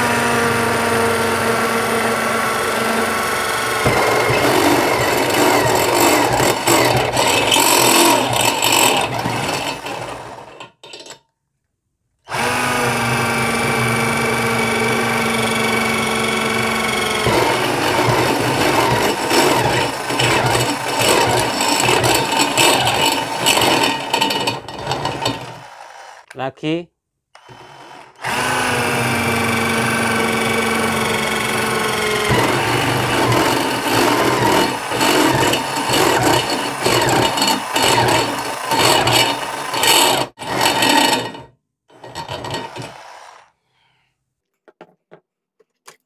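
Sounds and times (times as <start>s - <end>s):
electric drill drilling into metal: 0.3s - 10.7s, 12.3s - 26.3s, 27.4s - 43.5s.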